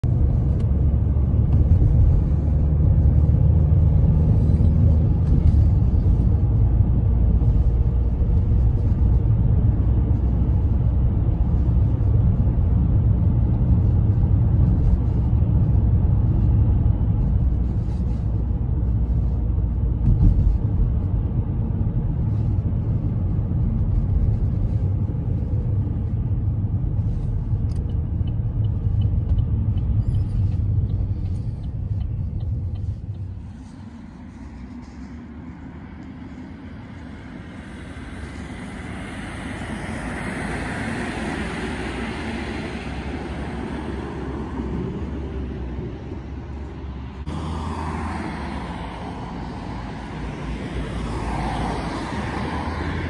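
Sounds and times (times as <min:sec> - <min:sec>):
car engine rumble: 0:00.0 - 0:53.0
road noise: 0:00.0 - 0:53.0.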